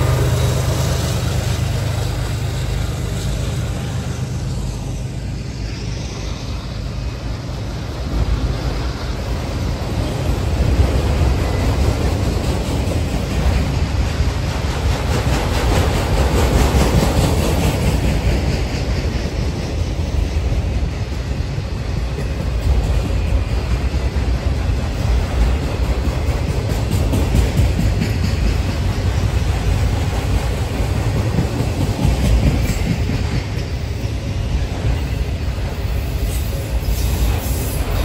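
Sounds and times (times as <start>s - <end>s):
diesel locomotive engine running: 0.0s - 38.0s
train wheels rumbling on rails: 0.0s - 38.0s.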